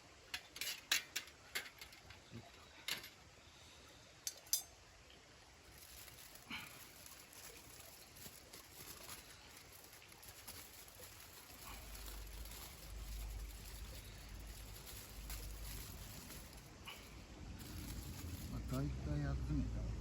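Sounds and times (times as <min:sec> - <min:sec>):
tongs scraping charcoal: 0:00.3 - 0:03.2, 0:04.2 - 0:04.8, 0:05.5 - 0:19.0.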